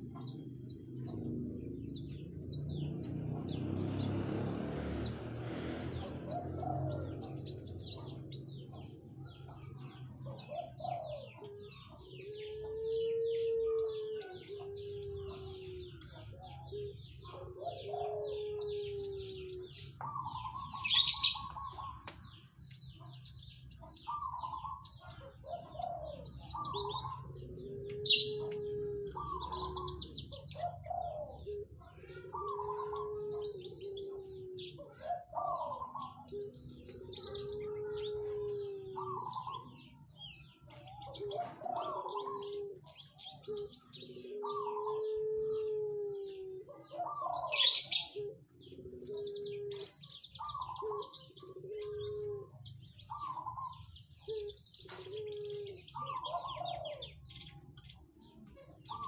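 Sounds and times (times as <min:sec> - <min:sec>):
bird singing chattering trills: 0:00.0 - 0:59.0
low cooing notes: 0:00.0 - 0:59.0.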